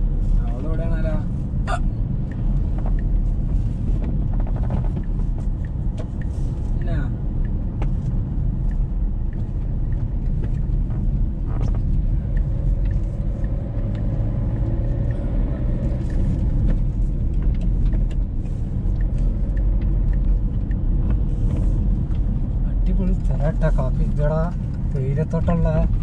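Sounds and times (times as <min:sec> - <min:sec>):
engine and road noise rumble: 0:00.0 - 0:26.0.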